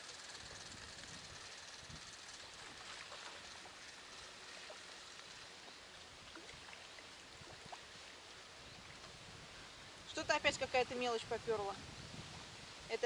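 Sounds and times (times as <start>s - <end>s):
wind and water hiss: 0.0s - 13.0s.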